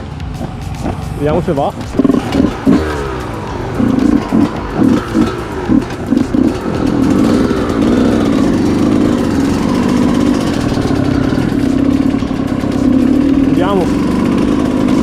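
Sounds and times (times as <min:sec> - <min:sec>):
motocross bike engine starting: 0:01.8 - 0:15.0.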